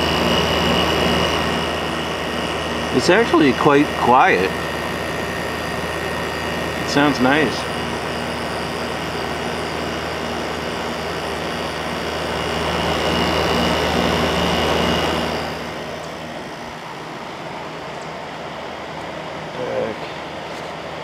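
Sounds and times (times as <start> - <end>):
air conditioner hum: 0.0 - 21.0
fan rushing: 0.0 - 21.0.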